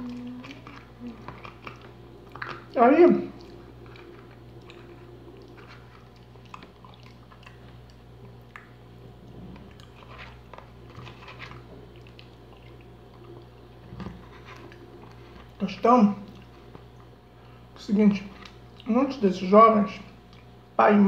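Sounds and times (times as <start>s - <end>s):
person chewing food: 0.0s - 15.6s, 16.2s - 17.7s, 18.3s - 18.9s, 20.2s - 20.6s
faint low hum: 0.0s - 21.0s.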